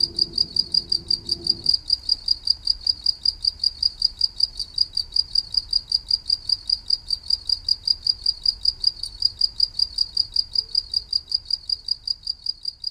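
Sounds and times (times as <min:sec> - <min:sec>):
cricket chirping: 0:00.0 - 0:12.9.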